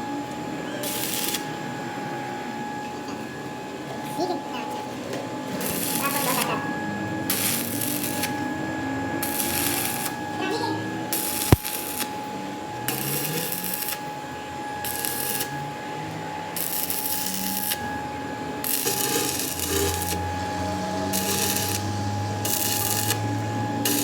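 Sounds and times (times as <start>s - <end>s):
lathe whine: 0.0s - 24.0s.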